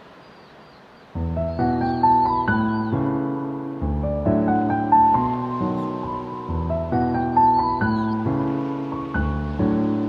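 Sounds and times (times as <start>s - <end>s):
background music with held notes: 1.2s - 10.0s.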